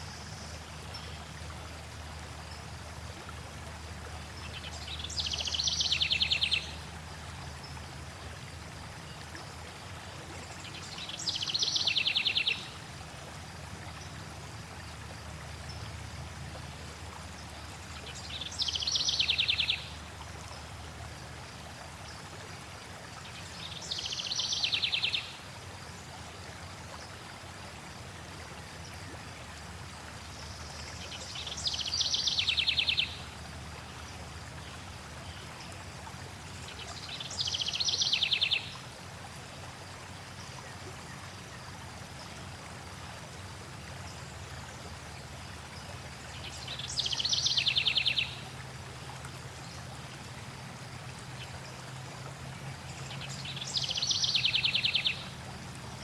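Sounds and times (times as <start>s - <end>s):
flowing stream water: 0.0s - 56.0s.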